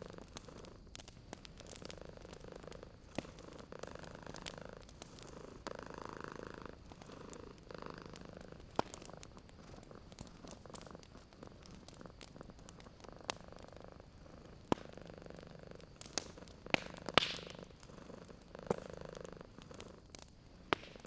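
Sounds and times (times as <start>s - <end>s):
cat purring: 0.0s - 21.0s
wood fire crackling and popping: 0.0s - 21.0s.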